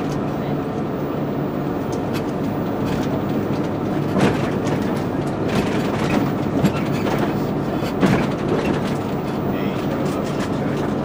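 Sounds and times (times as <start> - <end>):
bus engine and road rumble: 0.0 - 11.0
knocks and rattles over bumps: 2.1 - 11.0.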